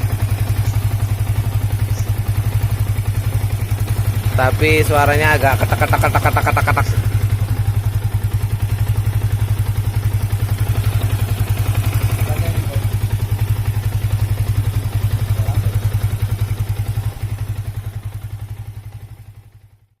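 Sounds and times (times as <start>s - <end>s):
engine tapping rattle: 0.0s - 19.4s
motorcycle engine idling: 0.0s - 20.0s.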